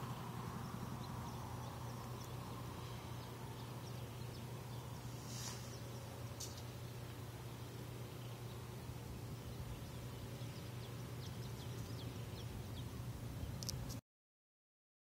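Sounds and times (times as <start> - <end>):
background hiss: 0.0 - 14.0
steady low hum: 0.0 - 14.0.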